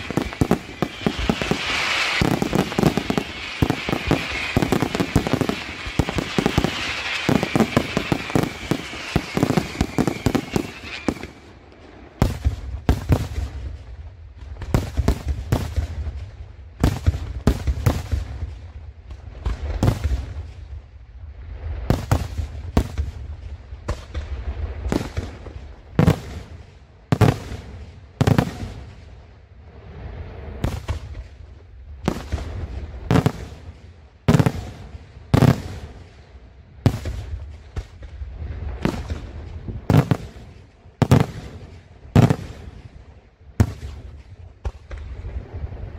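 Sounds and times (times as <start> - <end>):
rapid crackling of fireworks: 0.0 - 45.9.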